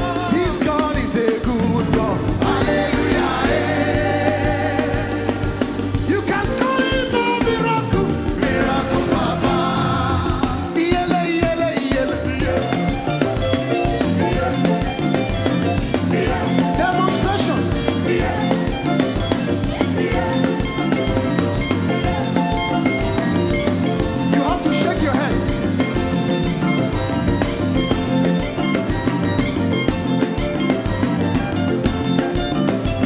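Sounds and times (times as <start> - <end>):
person singing: 0.0 - 26.8
band playing gospel music: 0.0 - 33.0.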